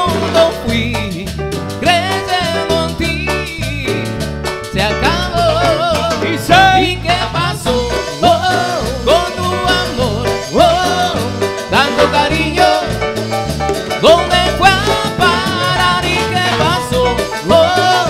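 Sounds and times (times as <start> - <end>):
live latin dance band: 0.0 - 18.0.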